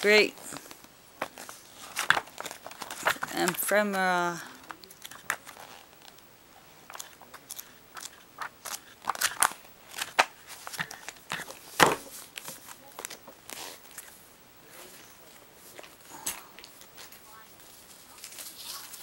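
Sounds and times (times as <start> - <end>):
magazine pages flipping and rustling: 0.4 - 19.0.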